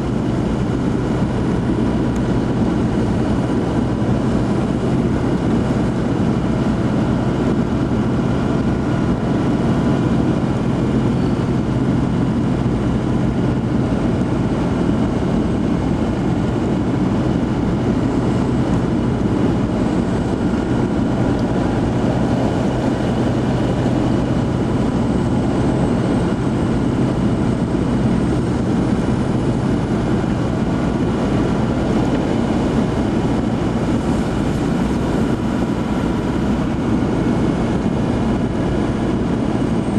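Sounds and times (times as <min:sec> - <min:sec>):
car interior engine hum: 0:00.0 - 0:39.9
tyres on snowy road: 0:00.0 - 0:39.9.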